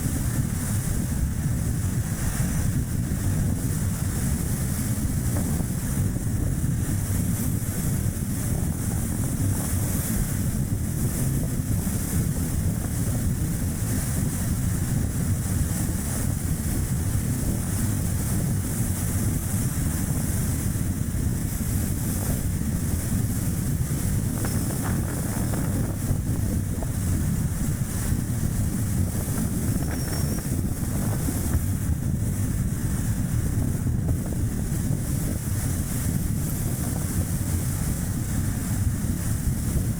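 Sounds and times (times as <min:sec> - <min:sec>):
car tyre and road noise: 0:00.0 - 0:39.9
wind buffeting microphone: 0:00.0 - 0:39.9.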